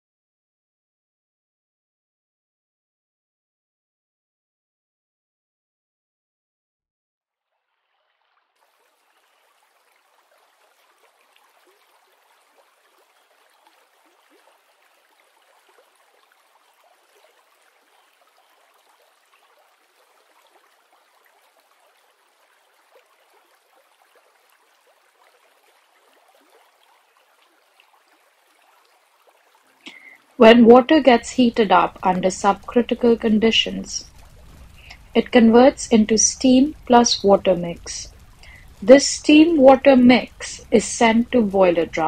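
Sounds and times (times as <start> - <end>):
faint trickling water: 7.4 - 42.0.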